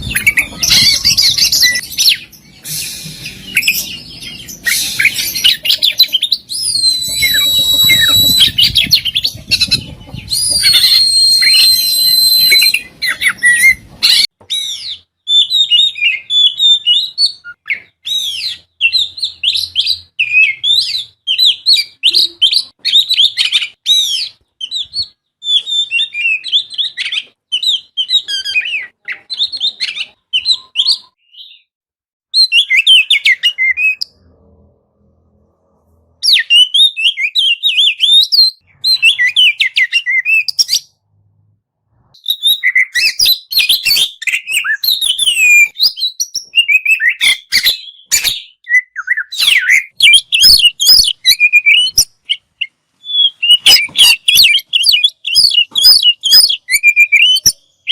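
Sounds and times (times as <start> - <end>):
high bird whistles and chirps: 0.0 - 31.7, 32.3 - 34.3, 36.2 - 41.0, 42.0 - 57.9.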